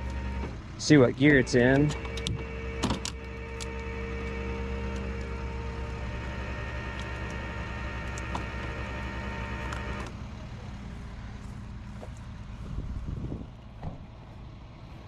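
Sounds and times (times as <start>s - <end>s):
constant humming tones: 0.0s - 15.0s
vehicle engine idling: 0.0s - 15.0s.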